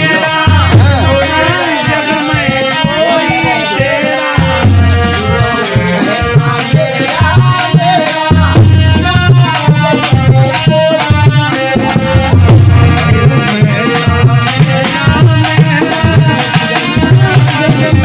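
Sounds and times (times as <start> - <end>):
low drum beats: 0.0 - 16.4
person singing: 0.0 - 18.0
shaker-like rattling percussion: 0.0 - 18.0.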